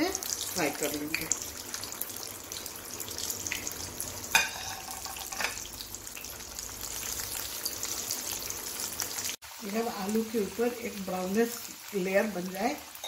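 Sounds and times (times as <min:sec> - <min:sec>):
potatoes deep-frying in oil: 0:00.0 - 0:13.0.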